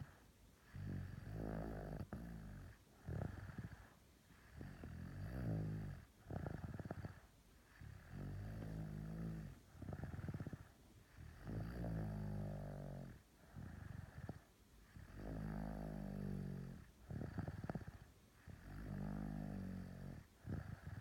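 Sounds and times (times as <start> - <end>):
person snoring: 0.0 - 21.0.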